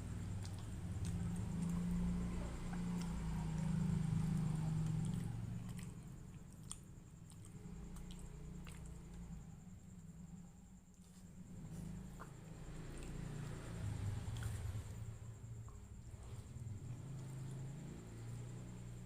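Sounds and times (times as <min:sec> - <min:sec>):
chewing soft food: 0:00.0 - 0:19.0.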